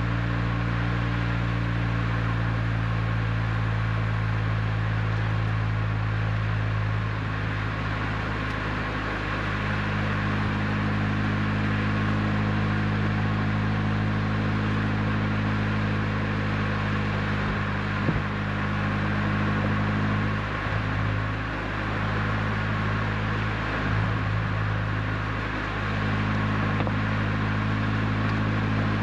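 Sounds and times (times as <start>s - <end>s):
car engine cruising hum: 0.0s - 29.0s.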